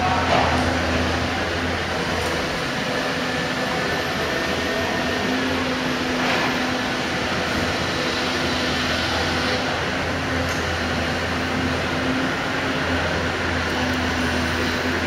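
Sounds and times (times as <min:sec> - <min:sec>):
demolition machinery engine drone: 0:00.0 - 0:15.0.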